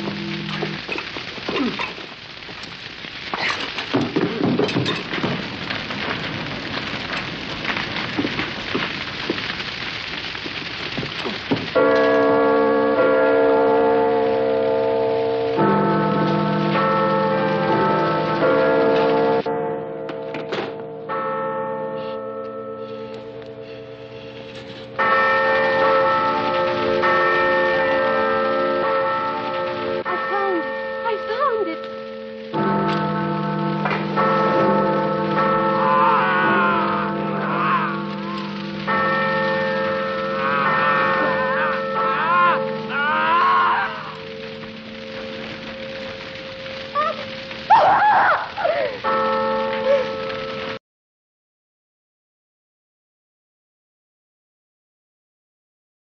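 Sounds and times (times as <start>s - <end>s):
church bell ringing: 0.0s - 2.3s, 3.6s - 10.2s, 11.2s - 47.8s, 48.4s - 50.8s
fire crackling: 0.0s - 21.7s, 22.7s - 50.8s.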